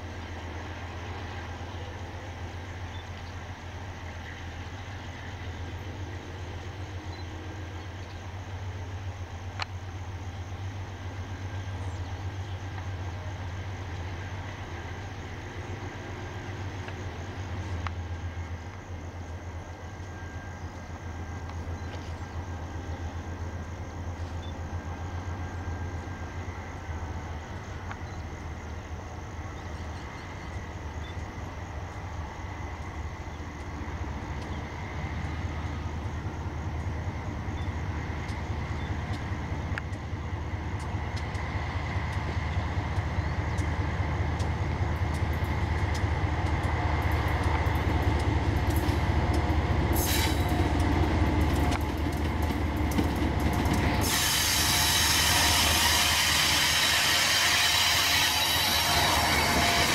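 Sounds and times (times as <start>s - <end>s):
diesel locomotive engine rumble: 0.0s - 59.9s
squealing train wheels: 0.0s - 59.9s
wheels rushing on rails: 0.0s - 59.9s.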